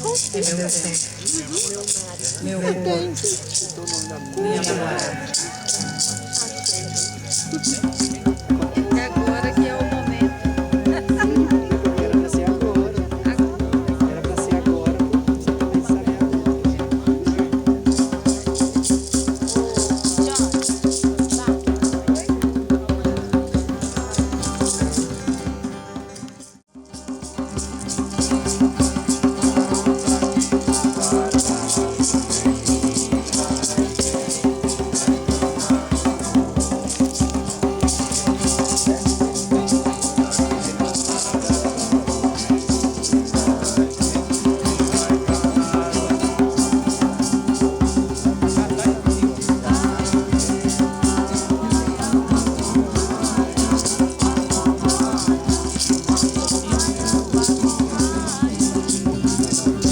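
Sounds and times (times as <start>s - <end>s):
wavering melody: 0.0s - 14.8s, 23.1s - 59.9s
hand rattle shaken: 0.0s - 59.9s.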